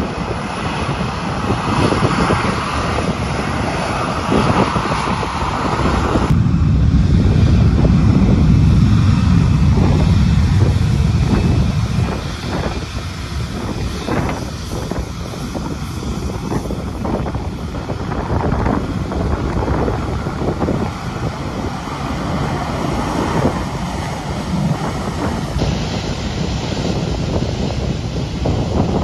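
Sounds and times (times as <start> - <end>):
deep low rumble: 0.0 - 29.0
jet engines hissing: 0.0 - 29.0.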